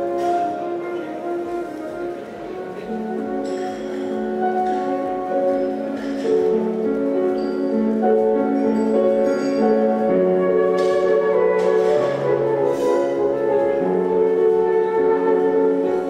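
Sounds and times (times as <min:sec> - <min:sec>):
flute melody: 0:00.0 - 0:16.0
piano playing: 0:00.0 - 0:16.0.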